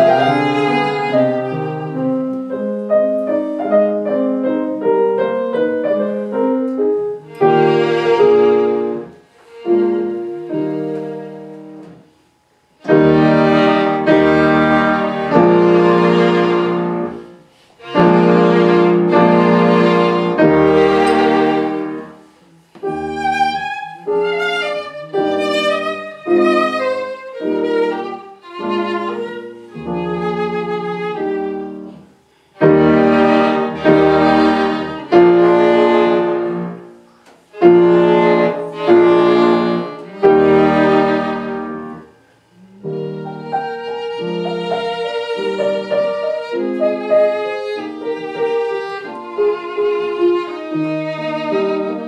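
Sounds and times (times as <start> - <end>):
violin playing classical music: 0.0 - 12.1, 12.8 - 52.0
piano accompaniment: 0.0 - 52.0.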